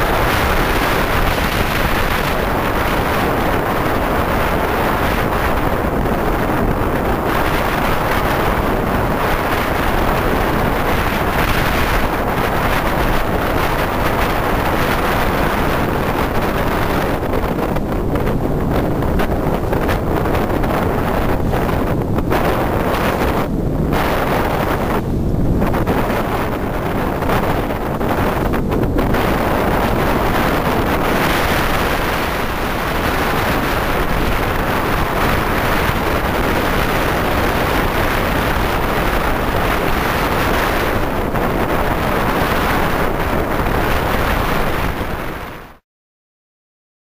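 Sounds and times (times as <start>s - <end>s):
water rushing along hull: 0.0s - 45.8s
wind buffeting microphone: 0.0s - 45.8s.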